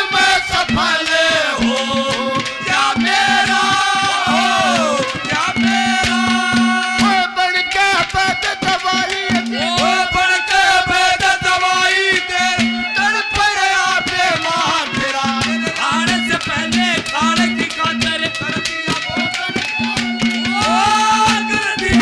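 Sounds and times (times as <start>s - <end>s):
hand drum rhythm: 0.0s - 22.0s
harmonium melody: 0.0s - 22.0s.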